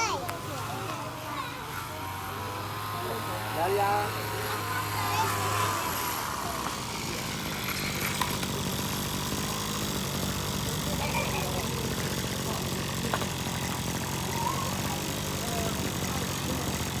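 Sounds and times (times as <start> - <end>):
faint voices: 0.0 - 17.0
small engine idling: 0.0 - 17.0.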